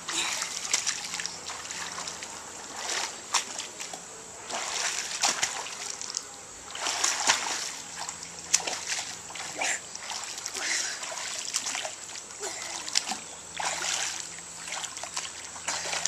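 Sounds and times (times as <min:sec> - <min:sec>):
child splashing in pool: 0:00.0 - 0:03.7, 0:04.4 - 0:06.1, 0:06.7 - 0:16.0
water lapping: 0:00.0 - 0:16.0.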